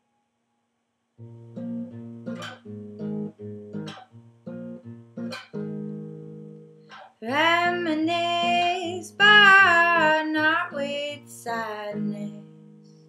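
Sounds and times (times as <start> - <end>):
fingerstyle classical guitar: 1.2 - 13.0.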